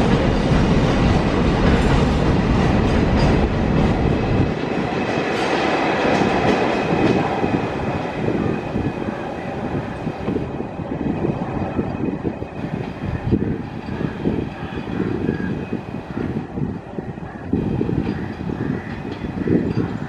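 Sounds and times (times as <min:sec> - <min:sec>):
freight train rumble: 0:00.0 - 0:20.0
wheel-on-rail noise: 0:00.0 - 0:20.0.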